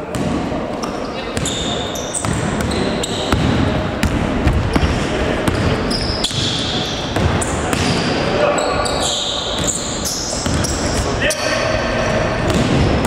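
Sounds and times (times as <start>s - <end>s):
players' voices: 0.0s - 13.0s
sneakers squeaking: 0.0s - 13.0s
basketball bouncing on court: 0.1s - 0.4s, 1.4s - 11.0s, 12.4s - 13.0s.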